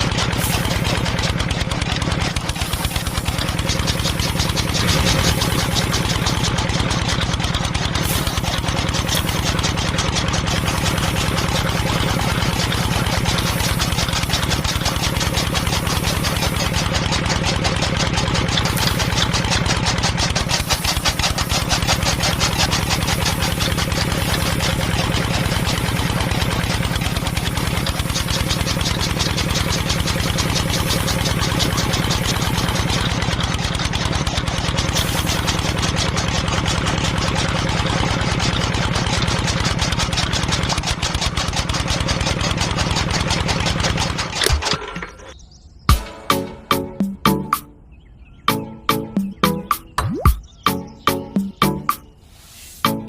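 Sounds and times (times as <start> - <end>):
small motor chugging: 0.0 - 45.5
small engine idling: 0.0 - 53.0.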